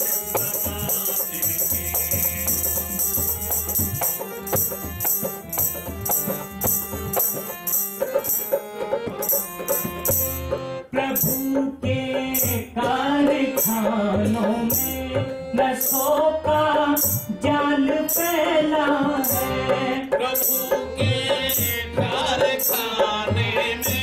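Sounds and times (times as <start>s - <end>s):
jingling percussion beat: 0.0s - 24.0s.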